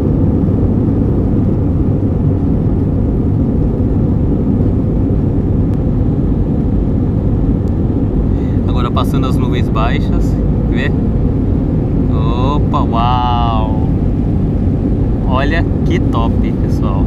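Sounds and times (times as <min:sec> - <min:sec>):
jet engines and airflow in cabin: 0:00.0 - 0:17.0.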